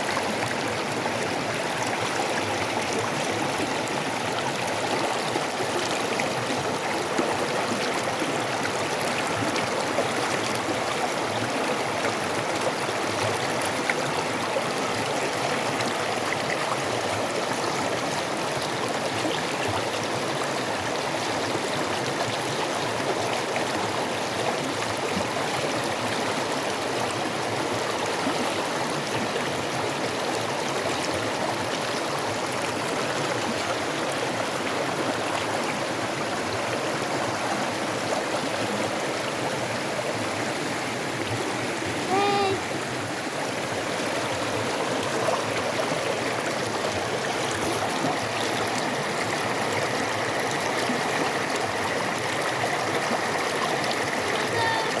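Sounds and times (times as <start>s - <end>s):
creek flowing over rocks: 0.0s - 55.0s.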